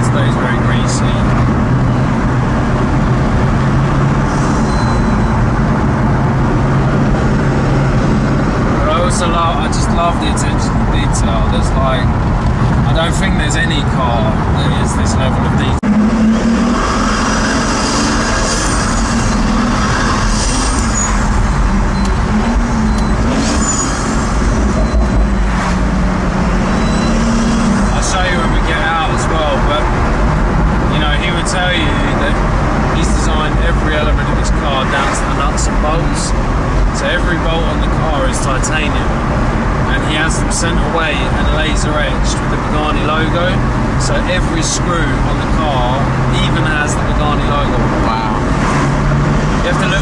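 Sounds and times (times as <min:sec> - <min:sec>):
car engine cruising: 0:00.0 - 0:50.0
road noise: 0:00.0 - 0:50.0.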